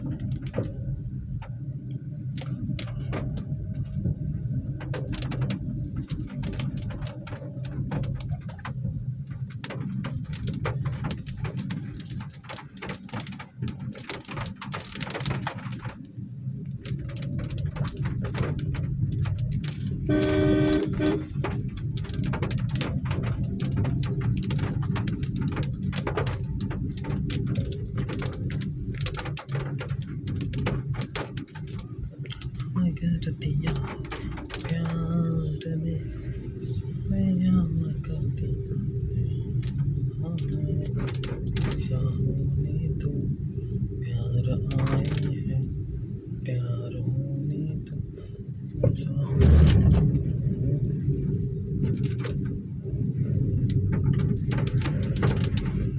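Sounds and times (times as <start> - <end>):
car driving rumble: 0.0 - 55.9.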